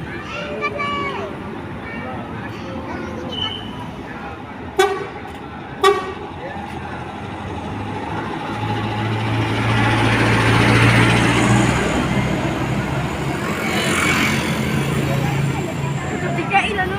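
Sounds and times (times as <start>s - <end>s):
bus diesel engine passing: 0.0s - 16.9s.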